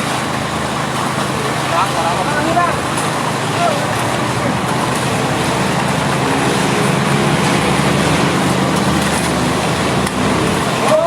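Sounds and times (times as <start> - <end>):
road traffic noise: 0.0 - 11.0
vehicle engine running: 0.0 - 11.0.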